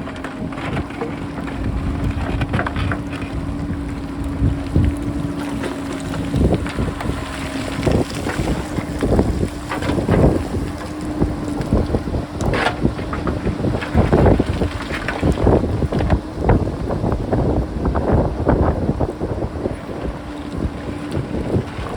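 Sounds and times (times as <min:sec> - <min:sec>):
diesel engine hum: 0:00.0 - 0:21.9
wind buffeting microphone: 0:00.0 - 0:21.9.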